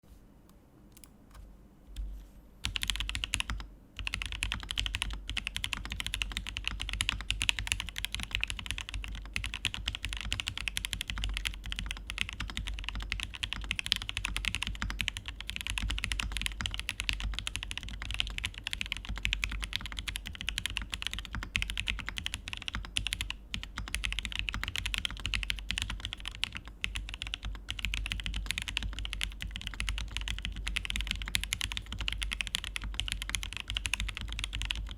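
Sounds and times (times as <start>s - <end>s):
mechanical keyboard typing: 2.0s - 34.9s.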